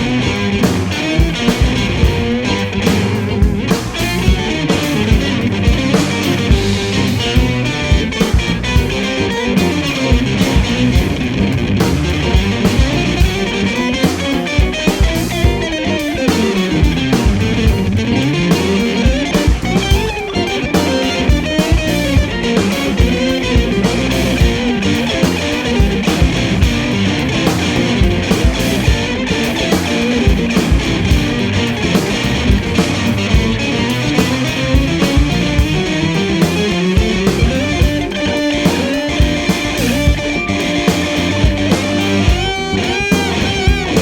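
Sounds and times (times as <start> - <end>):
bass guitar: 0.0 - 44.0
drums: 0.0 - 44.0
electric guitar bending lines: 0.0 - 44.0.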